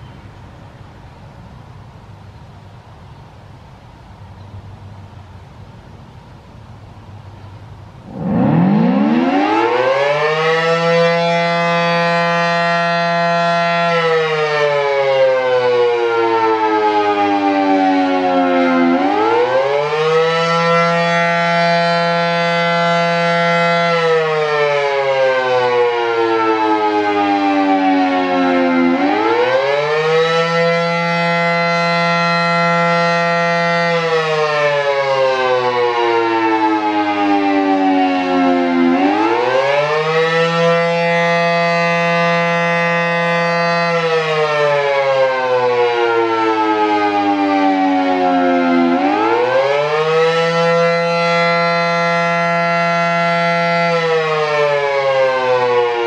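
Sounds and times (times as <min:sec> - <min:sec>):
warning siren rising and falling: 0:08.0 - 0:56.0.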